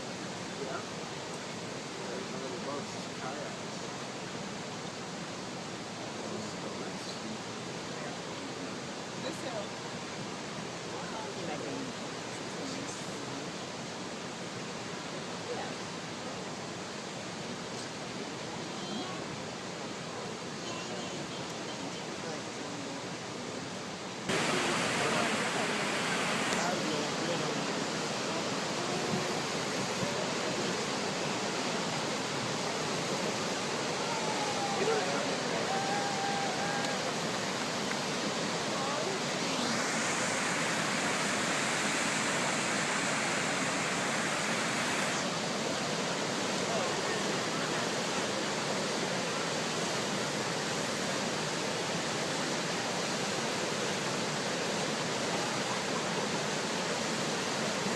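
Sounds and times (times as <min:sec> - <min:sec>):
whitewater rushing: 0:00.0 - 0:57.9.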